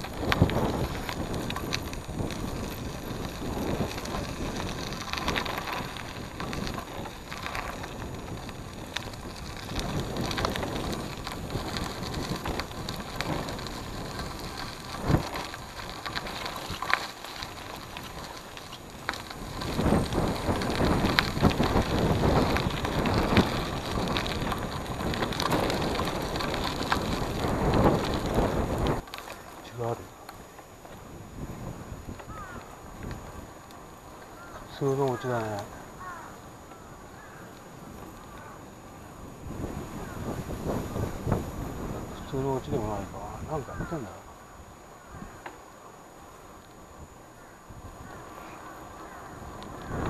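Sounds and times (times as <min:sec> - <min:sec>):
bike tyres rolling on gravel: 0:00.0 - 0:50.0.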